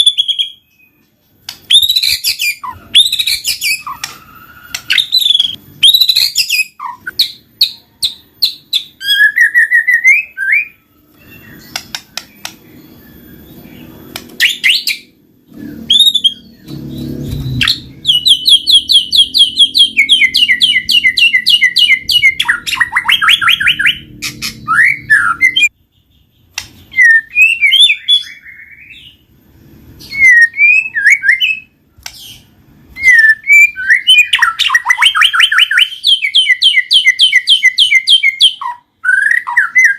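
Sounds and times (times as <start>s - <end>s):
songbird singing whistled phrases: 1.6s - 29.2s, 30.0s - 39.9s.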